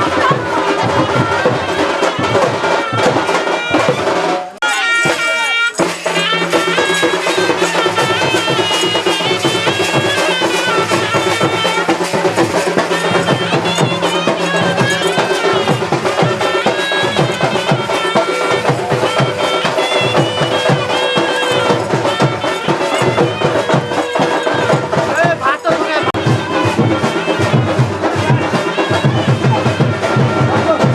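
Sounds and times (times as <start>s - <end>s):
fast hand percussion: 0.0s - 30.9s
reedy wind instrument melody: 0.0s - 30.9s.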